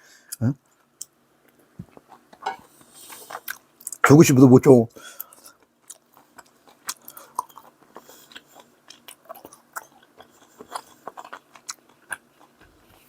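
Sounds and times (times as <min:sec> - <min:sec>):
person chewing crunchy food: 0:00.9 - 0:04.0, 0:05.1 - 0:13.0.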